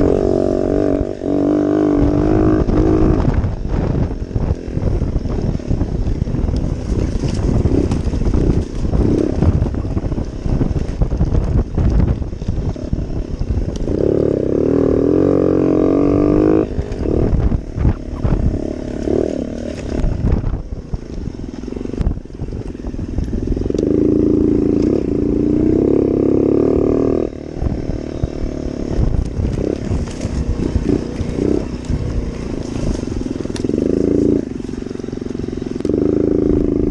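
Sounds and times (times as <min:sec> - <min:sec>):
dirt bike engine revving: 0:00.0 - 0:36.9
low rumble with knocks: 0:00.0 - 0:36.9.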